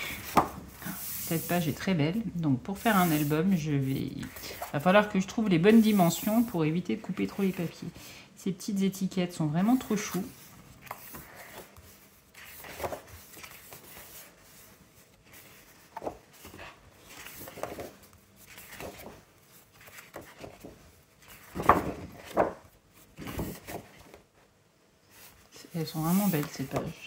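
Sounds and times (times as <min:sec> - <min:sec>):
paper rustling and sliding: 0:00.0 - 0:01.9, 0:02.7 - 0:07.6, 0:09.6 - 0:24.2, 0:25.1 - 0:27.0.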